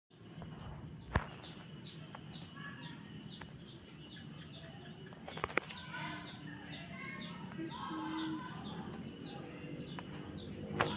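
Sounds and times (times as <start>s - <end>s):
small birds chirping: 0.1s - 10.9s.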